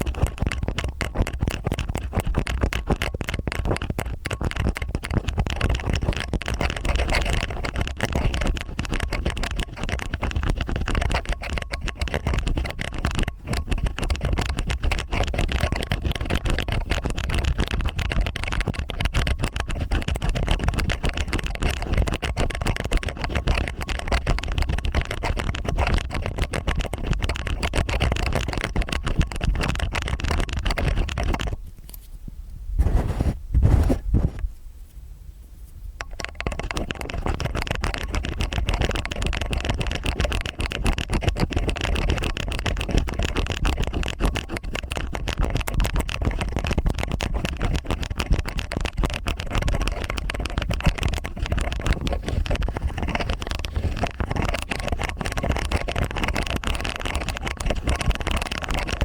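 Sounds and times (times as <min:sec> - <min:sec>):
ear picks scratching: 0:00.0 - 0:32.2, 0:32.8 - 0:34.6, 0:35.9 - 0:59.0.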